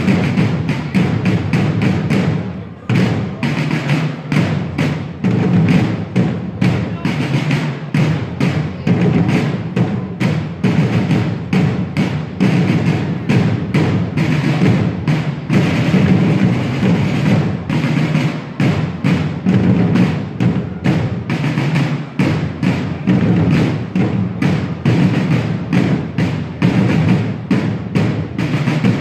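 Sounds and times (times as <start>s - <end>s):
drums beating marching rhythm: 0.0s - 29.0s.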